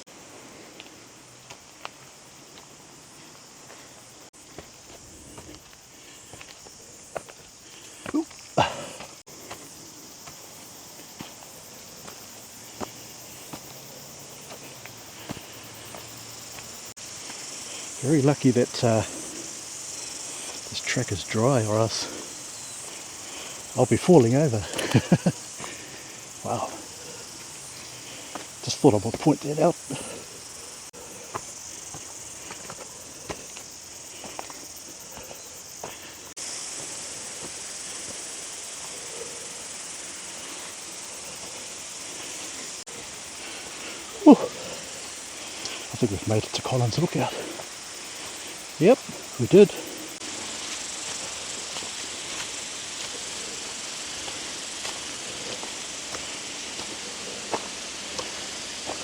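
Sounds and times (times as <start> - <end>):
high hiss of bush ambience: 0.0 - 59.0
high-pitched insect chorus: 0.0 - 59.0
footsteps on dry track: 0.6 - 39.0, 40.2 - 59.0.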